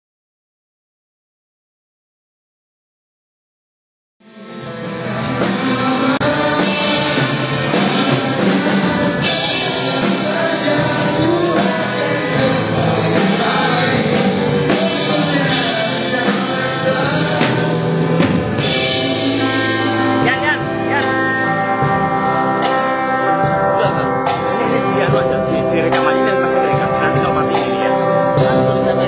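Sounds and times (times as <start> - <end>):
drum kit: 4.2 - 29.0
electric guitars: 4.2 - 29.0
keyboard: 4.2 - 29.0
person singing: 4.3 - 29.0.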